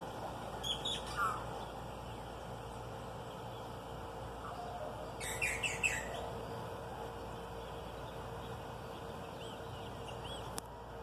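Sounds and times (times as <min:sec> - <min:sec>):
small bird chirping: 0:00.6 - 0:06.6, 0:07.2 - 0:10.6.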